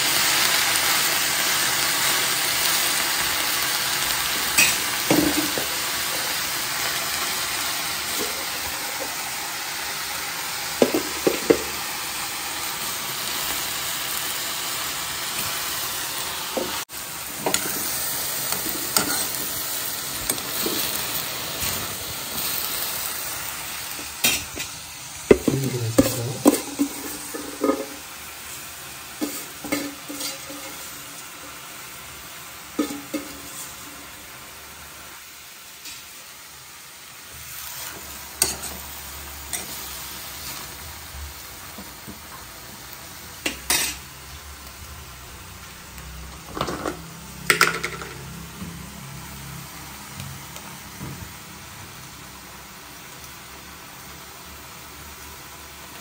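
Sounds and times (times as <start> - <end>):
spinach sizzling in a pan: 0.0 - 56.0.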